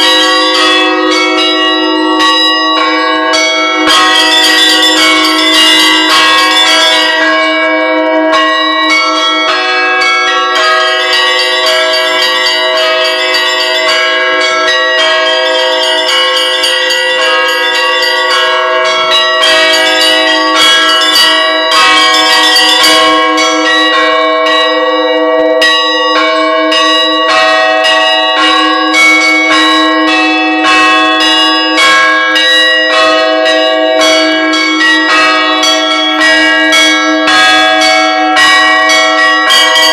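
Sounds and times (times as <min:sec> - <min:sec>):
bells ringing: 0:00.0 - 0:39.9.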